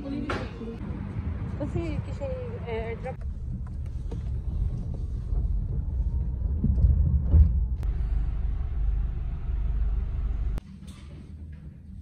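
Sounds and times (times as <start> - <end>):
car engine and tyres rumbling: 0.6 - 10.6.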